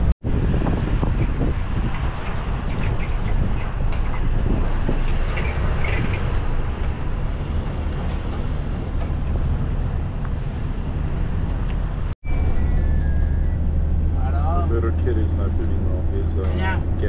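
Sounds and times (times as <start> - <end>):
van engine and tyre rumble: 0.0 - 17.0.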